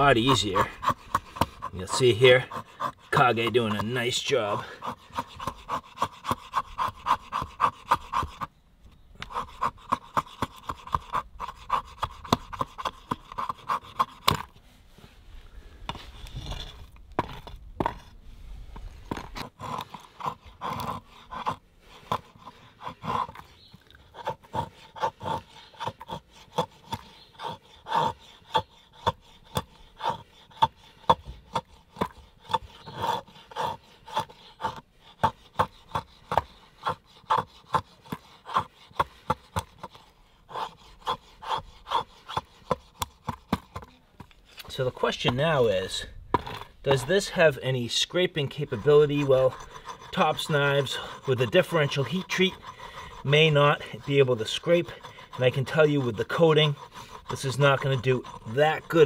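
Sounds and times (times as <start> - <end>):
blade scraping wood: 0.0 - 59.0.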